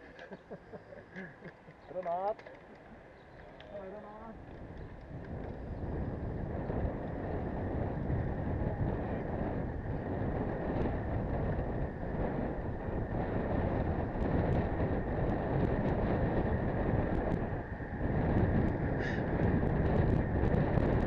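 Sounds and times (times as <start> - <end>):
wind buffeting the microphone: 1.7 - 21.0.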